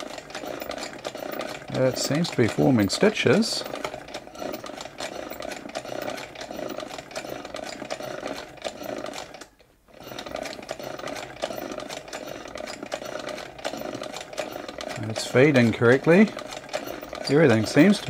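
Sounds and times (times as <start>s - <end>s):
toy sewing machine clatter: 0.0s - 18.0s.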